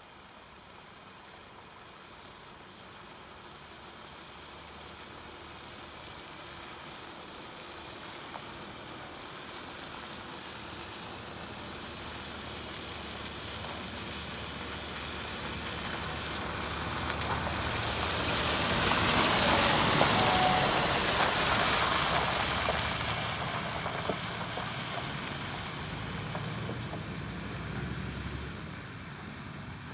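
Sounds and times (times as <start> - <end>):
diesel truck engine: 0.0 - 29.9
tyres hissing on wet gravel: 0.2 - 29.6.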